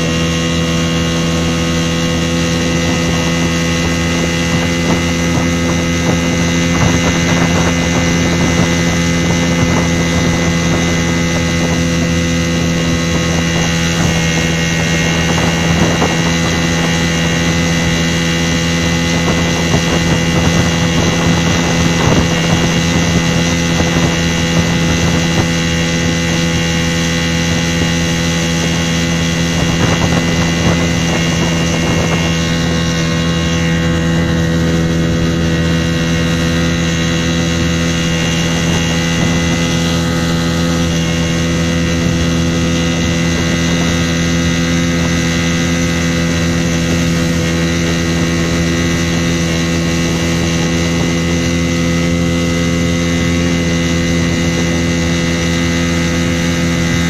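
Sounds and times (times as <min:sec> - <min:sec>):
outboard motor running: 0:00.0 - 0:57.0
water rushing along hull: 0:00.0 - 0:57.0.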